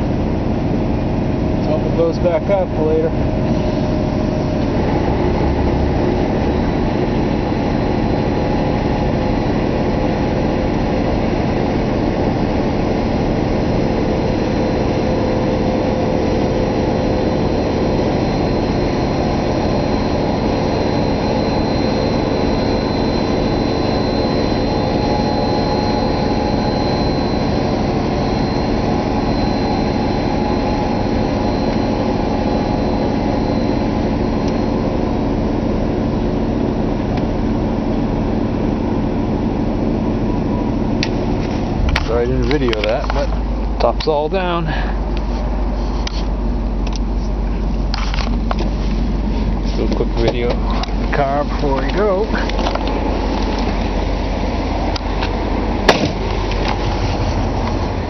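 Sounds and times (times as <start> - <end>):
car engine running: 0.0 - 58.0
faint high whine: 0.0 - 58.0.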